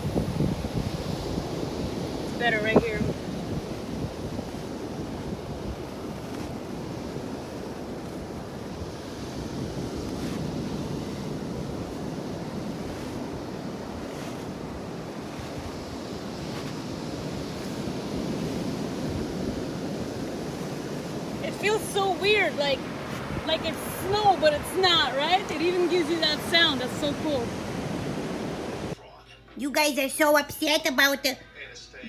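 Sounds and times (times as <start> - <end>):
ocean surf washing: 0.0 - 29.0
wind buffeting microphone: 0.0 - 29.0.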